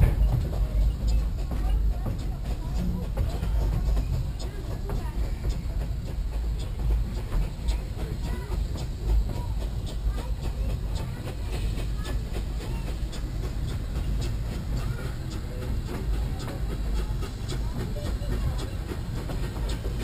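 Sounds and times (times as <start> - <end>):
train rumbling on track: 0.0 - 20.0
wheels clicking and clattering: 0.0 - 20.0.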